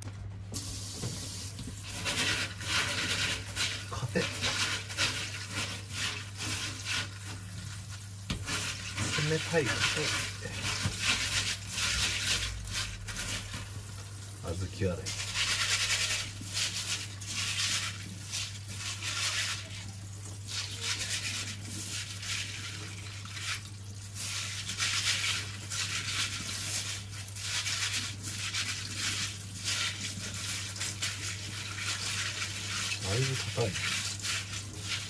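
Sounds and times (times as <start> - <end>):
hands rubbing beans in water: 0.6 - 35.0
water splashing in sink: 0.6 - 35.0.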